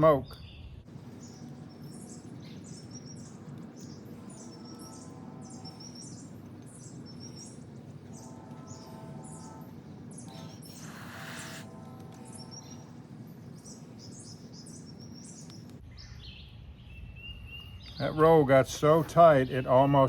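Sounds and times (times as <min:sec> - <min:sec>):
birds chirping: 0:00.0 - 0:20.0
low background rumble: 0:00.0 - 0:20.0.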